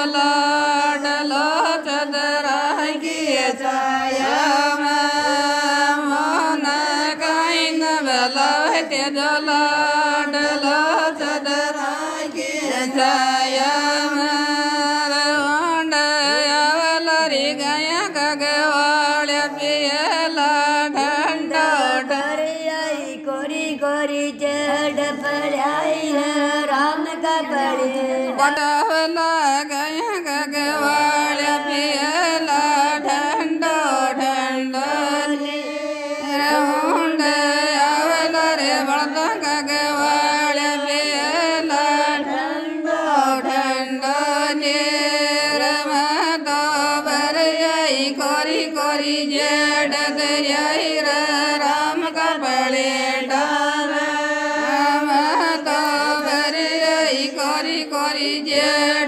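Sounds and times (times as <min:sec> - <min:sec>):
person singing devotional song: 0:00.0 - 0:59.0.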